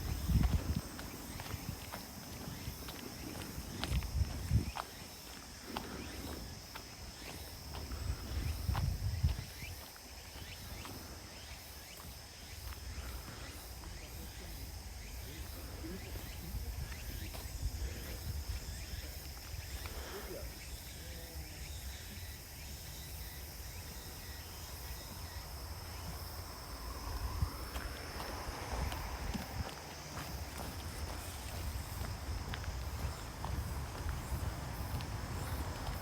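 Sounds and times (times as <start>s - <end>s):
low rumble of wind: 0.0s - 19.9s, 23.2s - 36.0s
footsteps on a path: 0.0s - 20.1s, 23.5s - 36.0s
insects shrilling: 0.0s - 36.0s.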